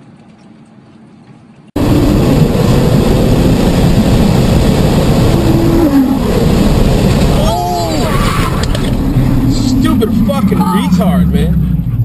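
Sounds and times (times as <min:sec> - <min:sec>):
road and wind noise in car: 0:01.7 - 0:12.0.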